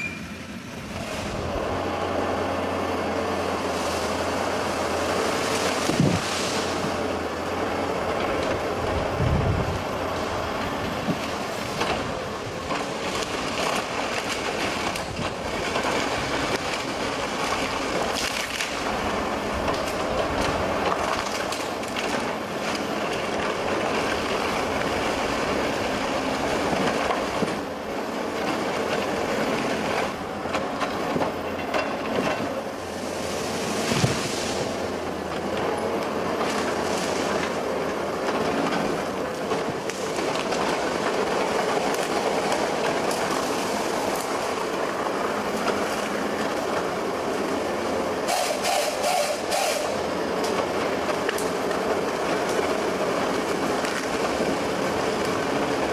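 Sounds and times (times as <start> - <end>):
excavator engine and hydraulics: 0.0 - 55.9.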